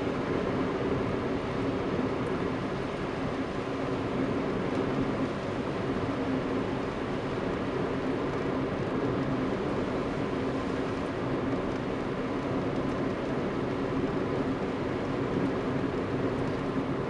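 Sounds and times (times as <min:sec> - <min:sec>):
car engine hum: 0:00.0 - 0:17.0.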